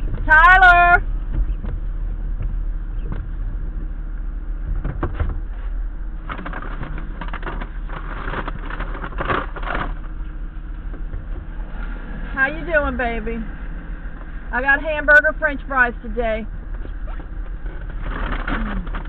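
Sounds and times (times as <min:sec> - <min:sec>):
car engine idling: 0:00.0 - 0:19.0
dense crackling rustle: 0:00.0 - 0:19.0.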